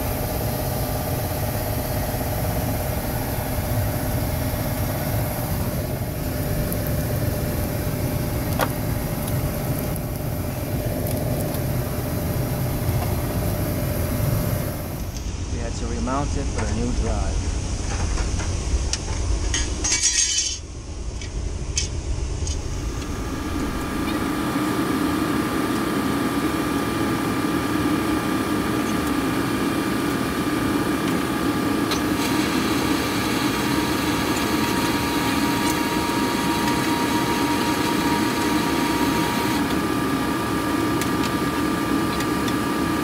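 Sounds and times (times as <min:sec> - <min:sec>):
machinery hum with high tones: 0:00.0 - 0:43.0.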